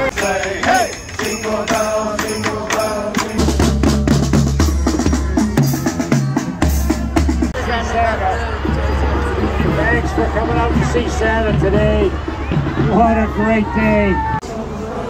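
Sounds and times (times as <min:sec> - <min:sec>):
marching bass drums beating: 0:00.0 - 0:14.4
marching band playing: 0:00.0 - 0:14.8
wind instruments tune: 0:00.0 - 0:15.0.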